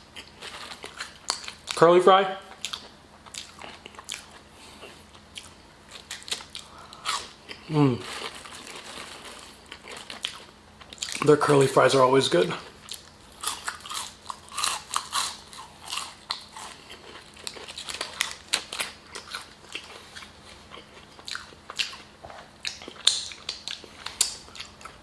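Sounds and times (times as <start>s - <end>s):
chewing and biting food: 0.0s - 1.8s, 2.5s - 11.4s, 12.5s - 25.0s.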